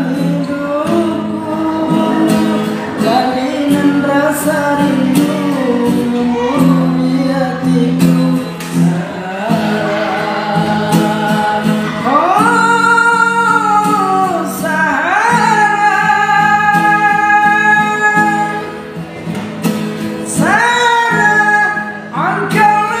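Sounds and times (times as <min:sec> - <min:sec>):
man singing: 0:00.0 - 0:18.9, 0:20.2 - 0:23.0
strummed acoustic guitar: 0:00.0 - 0:23.0.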